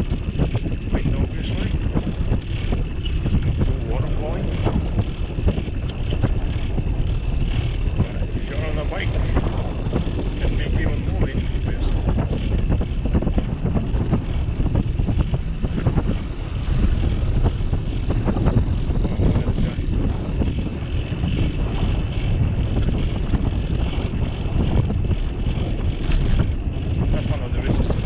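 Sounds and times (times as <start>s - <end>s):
bicycle knocks and rattles: 0.0s - 28.0s
wind buffeting microphone: 0.0s - 28.0s.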